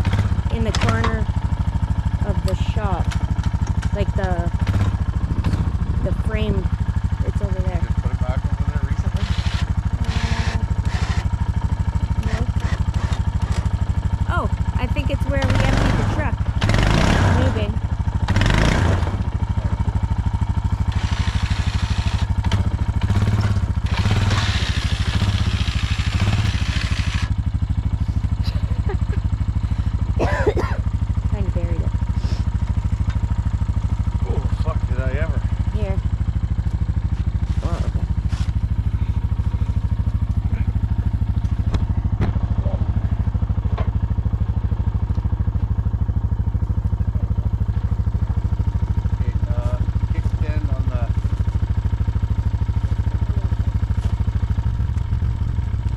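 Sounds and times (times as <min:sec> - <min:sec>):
engine idling with chugging beat: 0:00.0 - 0:55.9.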